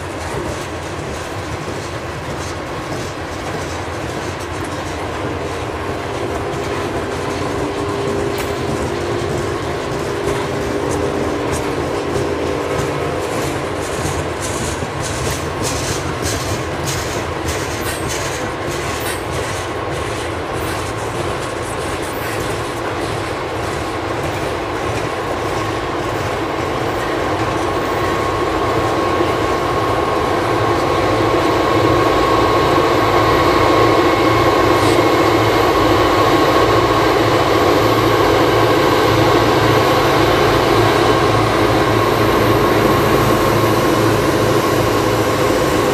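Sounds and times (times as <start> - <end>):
diesel locomotives high whine: 0.0 - 45.9
train wheels clicking over rail joints: 0.0 - 45.9.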